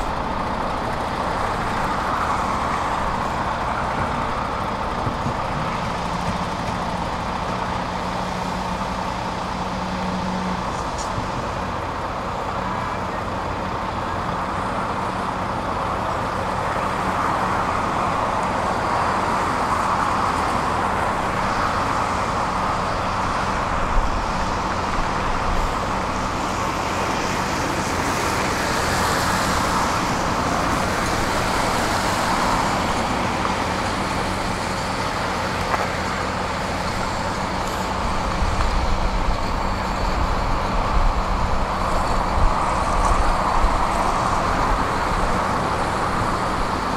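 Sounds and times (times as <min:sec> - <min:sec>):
heavy diesel machinery running: 0:00.0 - 0:46.9.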